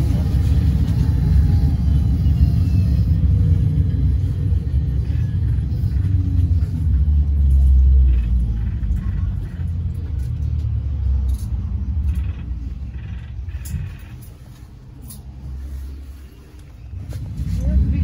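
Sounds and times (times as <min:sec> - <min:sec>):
trolleybus interior rumble: 0:00.0 - 0:18.0.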